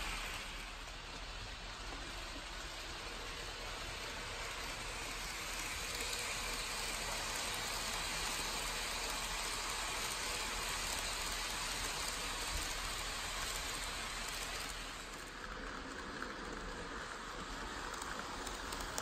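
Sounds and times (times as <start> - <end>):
model train wheels hissing on rails: 0.0 - 19.0.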